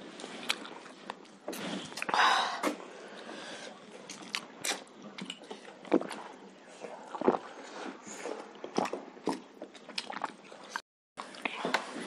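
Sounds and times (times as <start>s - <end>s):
wet eating sounds: 0.0s - 11.8s.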